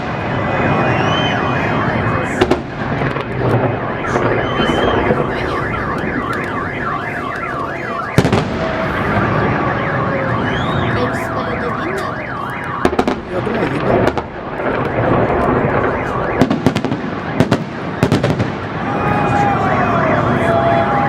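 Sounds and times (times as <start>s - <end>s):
car alarm siren warbling: 0.0s - 18.1s, 18.7s - 21.0s
firework bangs: 0.0s - 21.0s.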